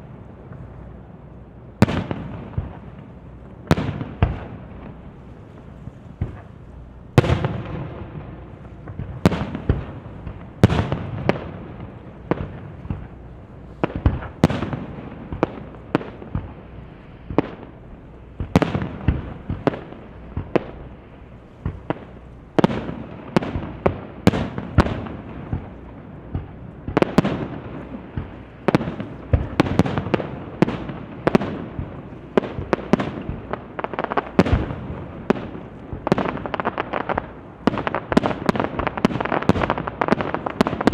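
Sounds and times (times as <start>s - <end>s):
fireworks bursts and booms: 0.0s - 40.9s
rolling echo: 0.0s - 40.9s.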